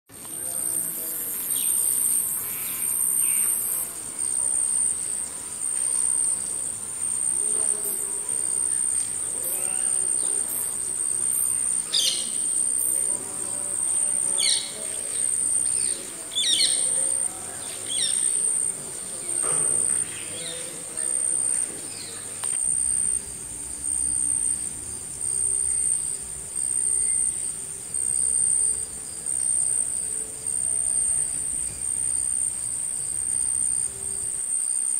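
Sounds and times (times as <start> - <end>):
insect chirping: 0.2 - 34.9.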